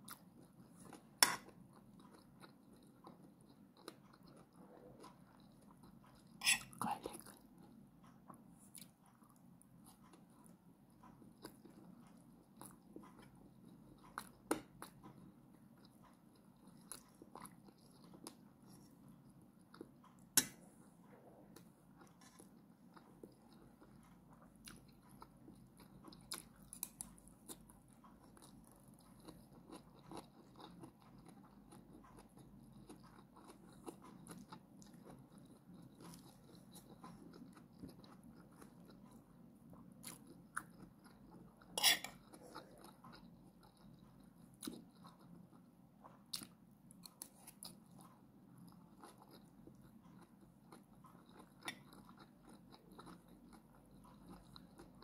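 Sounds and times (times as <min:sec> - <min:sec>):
close-up chewing: 0:00.0 - 0:55.0.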